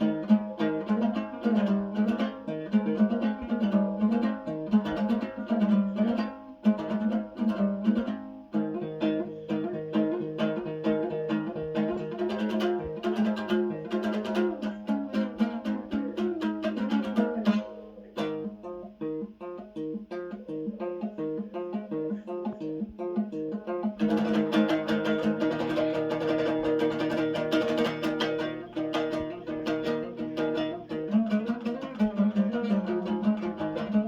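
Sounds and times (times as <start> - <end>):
plucked and strummed lute: 0.0 - 34.0.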